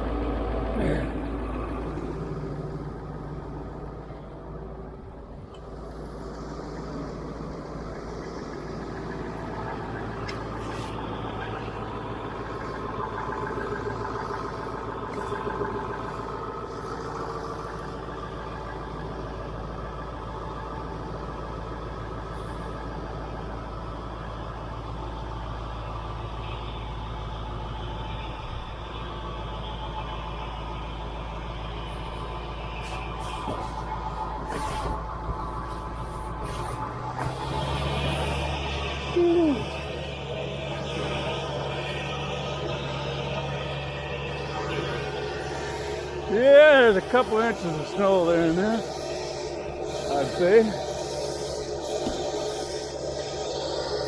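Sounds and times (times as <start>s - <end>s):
pickup engine idling: 0.0s - 54.0s.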